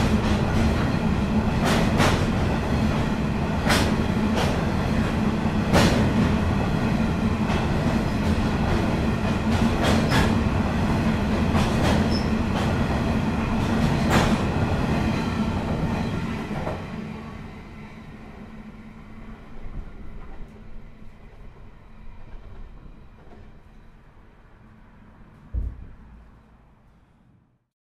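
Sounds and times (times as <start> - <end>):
train wagons rumbling: 0.0 - 24.4.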